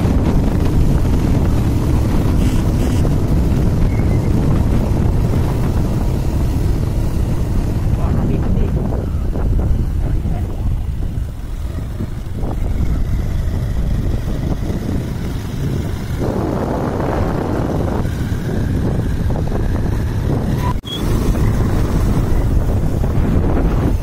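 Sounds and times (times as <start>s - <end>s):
engine and road rumble: 0.0s - 24.0s
wind noise on microphone: 0.0s - 24.0s.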